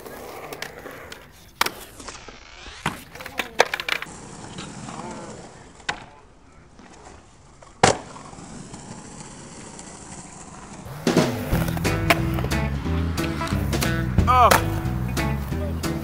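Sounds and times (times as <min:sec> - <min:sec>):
skateboard clacking on concrete: 0:00.0 - 0:16.0
skateboard wheels rolling on concrete: 0:00.0 - 0:16.0.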